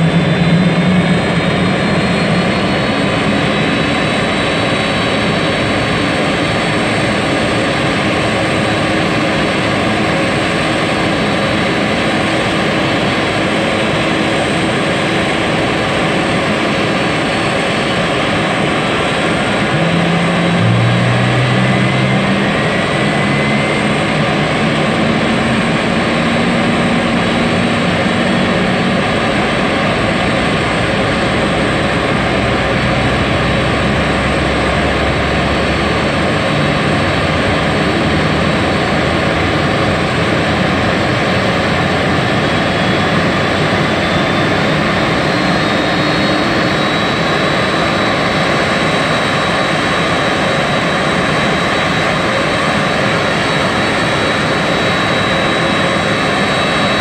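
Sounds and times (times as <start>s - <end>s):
jet engines rushing: 0.0s - 57.0s
thin high engine whine: 0.0s - 57.0s.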